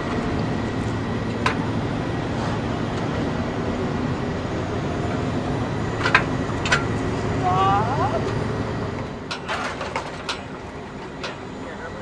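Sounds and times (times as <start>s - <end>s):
machine droning with low hum: 0.0s - 12.0s.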